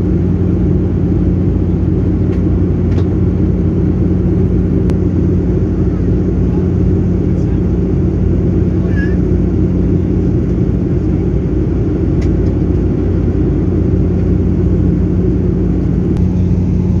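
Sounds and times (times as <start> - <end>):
jet cabin engine drone: 0.0 - 17.0.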